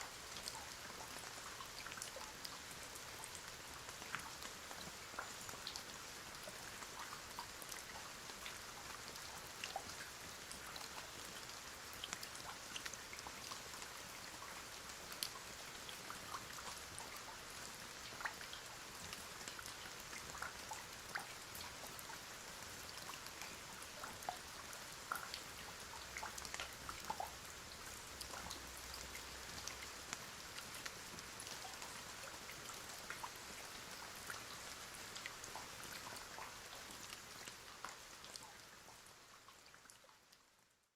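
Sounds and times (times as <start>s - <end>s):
rain hiss: 0.0s - 39.8s
raindrops ticking: 0.2s - 40.4s.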